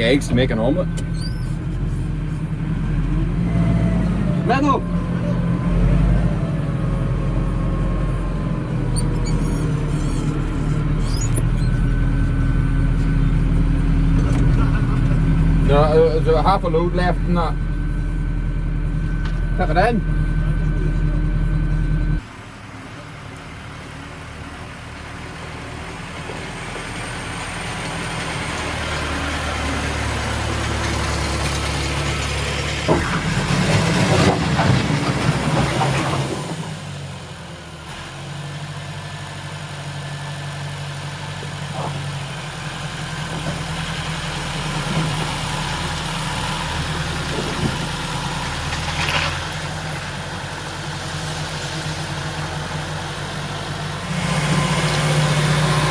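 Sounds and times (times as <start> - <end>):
dumper engine running: 0.0 - 55.9.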